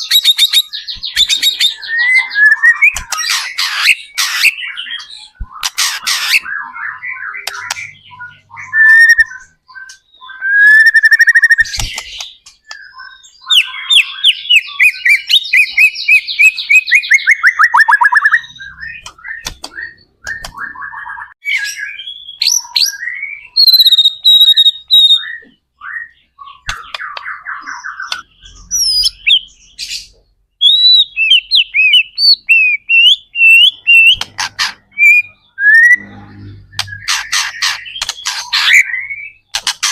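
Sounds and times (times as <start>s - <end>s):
songbird singing varied phrases: 0.0s - 39.5s.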